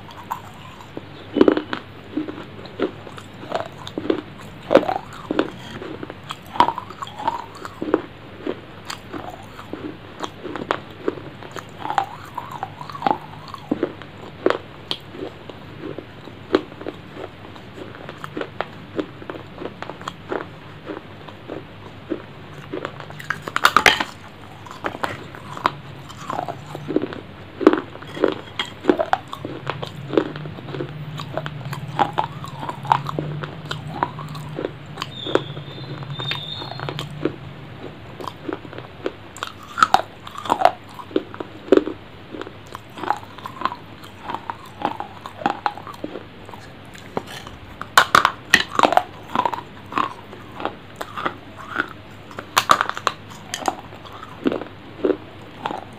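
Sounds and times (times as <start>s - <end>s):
person biting and chewing: 0.0s - 55.9s.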